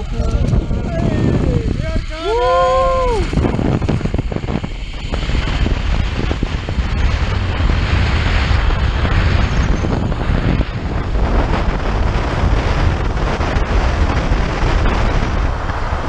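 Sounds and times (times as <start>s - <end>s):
pulleys running along cable: 0.0s - 15.6s
wind buffeting microphone: 0.0s - 16.0s.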